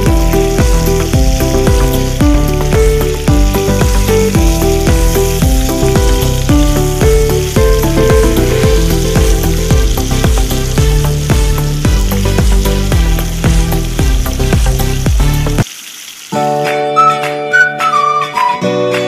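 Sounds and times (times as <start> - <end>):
background music with beat: 0.0 - 15.6, 16.4 - 19.0
chicken sizzling in oil: 0.0 - 18.4.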